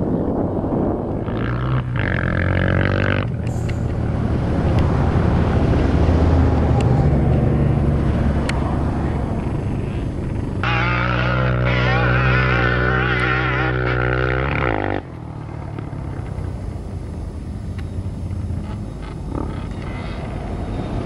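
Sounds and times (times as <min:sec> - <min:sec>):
high engine tone: 0:00.0 - 0:21.0
vehicle engine running: 0:00.8 - 0:21.0.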